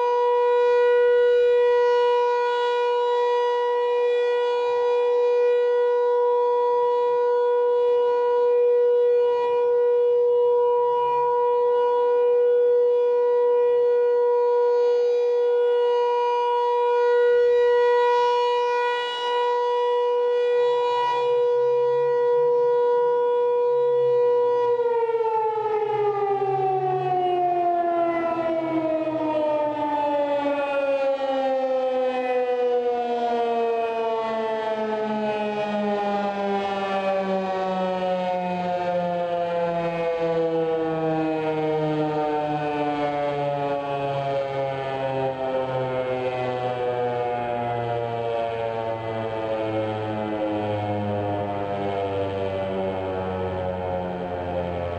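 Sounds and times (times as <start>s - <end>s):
warning siren: 0.0s - 54.9s.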